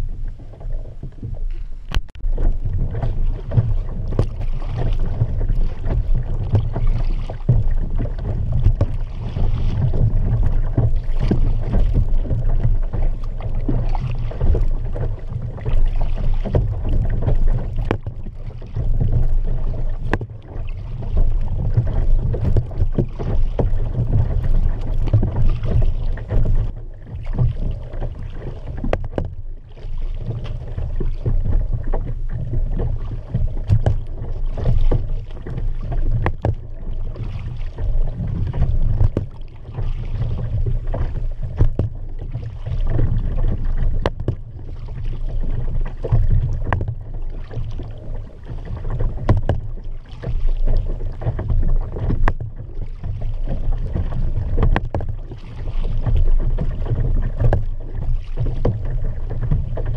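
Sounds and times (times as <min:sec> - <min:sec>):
low rumble of water and wind: 0:00.0 - 0:59.9
paddle splashing in water: 0:00.0 - 0:59.9.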